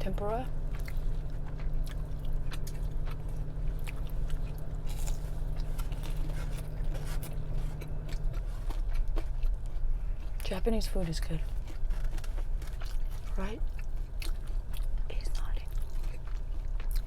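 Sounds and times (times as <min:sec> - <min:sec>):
low hum: 0:00.0 - 0:16.7
chewing crisp food crunches: 0:00.4 - 0:17.0.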